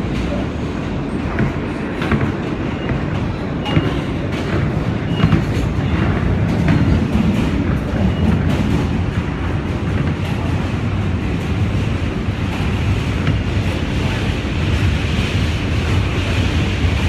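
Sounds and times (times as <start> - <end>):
subway car wheels rumbling on rail: 0.0 - 17.0.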